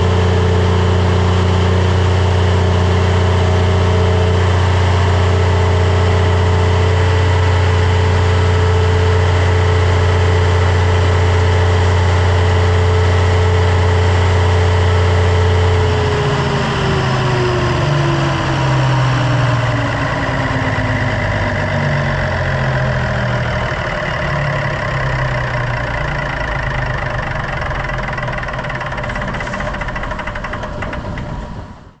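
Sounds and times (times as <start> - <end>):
diesel generator humming: 0.0 - 32.0.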